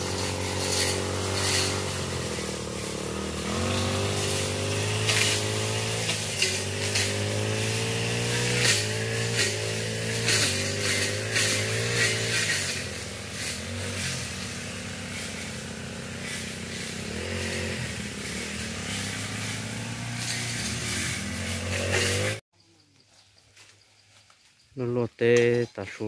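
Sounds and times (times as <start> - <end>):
two-stroke brush cutter engine: 0.0 - 22.4.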